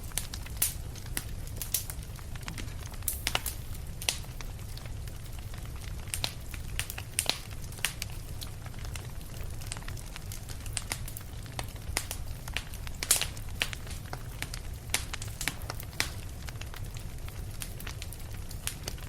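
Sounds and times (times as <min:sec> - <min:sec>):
campfire crackling and popping: 0:00.0 - 0:19.0
low fire rumble: 0:00.0 - 0:19.0.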